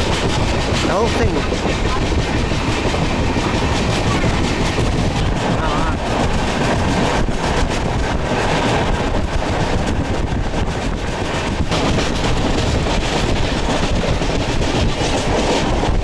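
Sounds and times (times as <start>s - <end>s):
train carriage rumble: 0.0s - 16.0s
wind on microphone: 0.0s - 16.0s.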